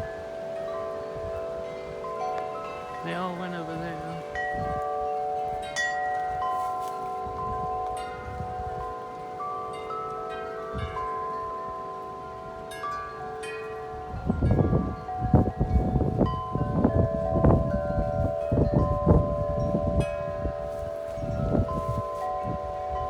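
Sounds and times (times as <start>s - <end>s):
metal wind chimes ringing: 0.0s - 23.0s
wind buffeting microphone: 0.0s - 23.0s.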